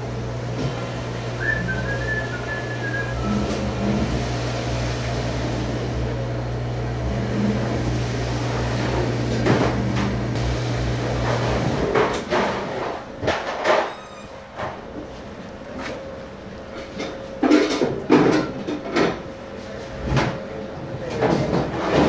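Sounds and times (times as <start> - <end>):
machine hum: 0.0 - 18.7.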